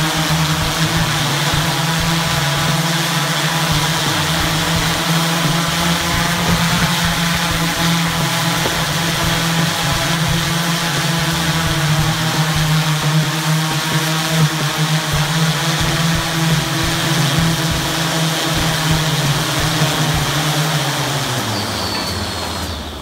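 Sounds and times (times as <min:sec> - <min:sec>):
multirotor propellers droning: 0:00.0 - 0:23.0.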